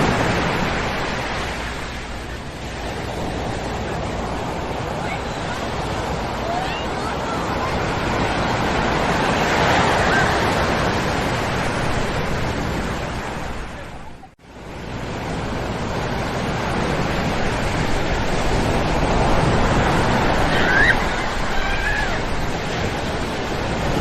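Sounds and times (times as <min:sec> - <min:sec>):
surf breaking on beach: 0:00.0 - 0:24.0.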